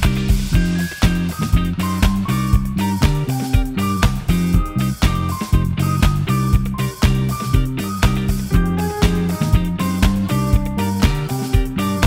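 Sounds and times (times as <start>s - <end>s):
upbeat funky instrumental music: 0.0s - 12.0s.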